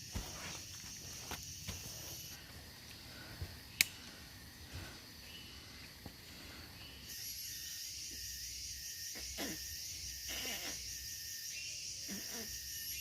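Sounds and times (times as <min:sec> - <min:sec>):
insects droning chorus: 0:00.0 - 0:13.0.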